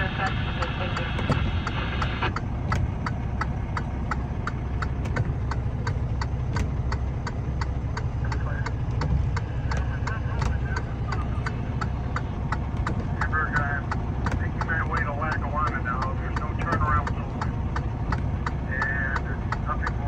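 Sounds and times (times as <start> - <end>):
car engine idling: 0.0 - 20.0
even ticking clicks: 0.6 - 20.0.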